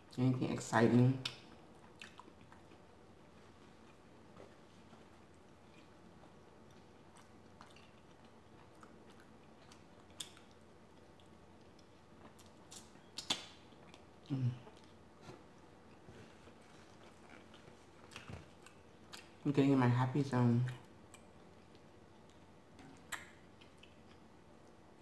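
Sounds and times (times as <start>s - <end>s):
person chewing food: 1.2s - 19.4s, 20.7s - 24.8s.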